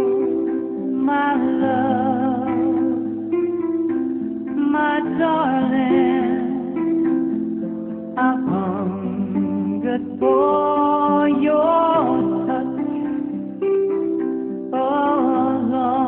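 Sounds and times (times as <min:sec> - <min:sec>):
plucked strings: 0:00.0 - 0:16.0
slow melody of gliding notes: 0:00.0 - 0:16.0.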